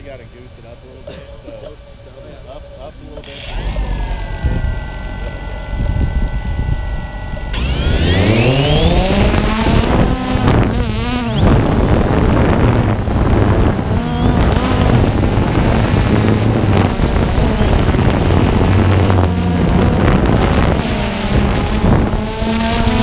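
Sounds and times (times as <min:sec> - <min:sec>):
drone propellers buzzing: 0:00.0 - 0:23.0.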